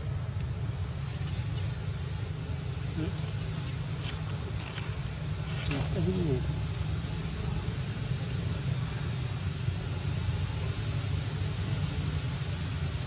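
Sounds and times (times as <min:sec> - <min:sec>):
faint hiss: 0:00.0 - 0:13.0
low background rumble: 0:00.0 - 0:13.0.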